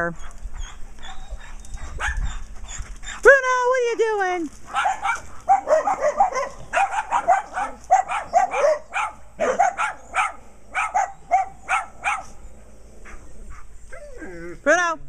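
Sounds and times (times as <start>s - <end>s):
dogs barking: 0.2s - 2.9s, 4.6s - 14.1s.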